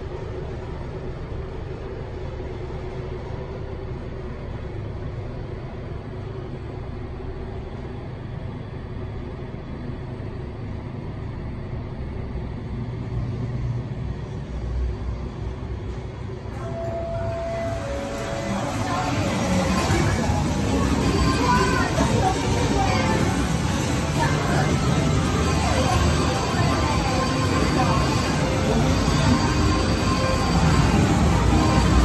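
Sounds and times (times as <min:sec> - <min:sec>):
elevator rumble: 0:00.0 - 0:32.0
faint hum: 0:00.0 - 0:32.0.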